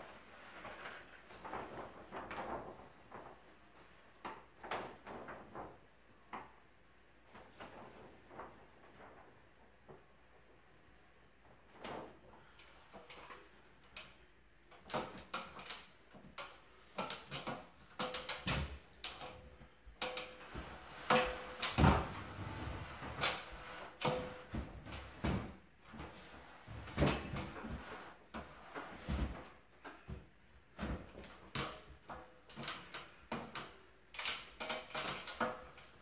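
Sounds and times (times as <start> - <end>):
wallpaper rustling and crinkling: 0.0 - 36.0.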